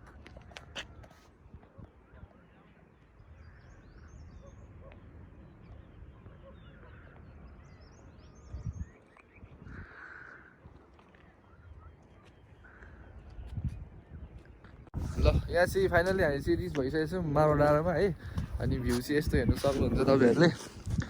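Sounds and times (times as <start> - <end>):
faint birdsong: 0.4 - 21.0.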